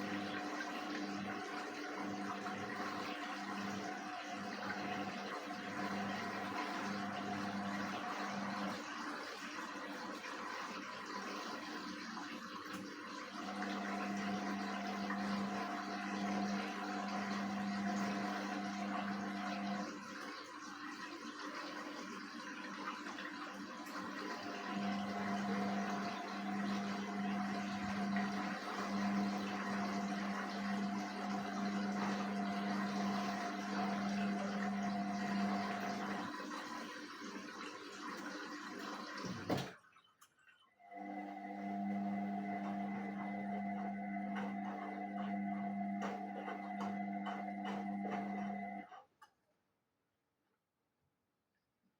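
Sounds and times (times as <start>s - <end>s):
washing machine motor hum: 0.0s - 40.0s, 40.8s - 49.0s
water rushing in washing machine drum: 0.0s - 49.0s.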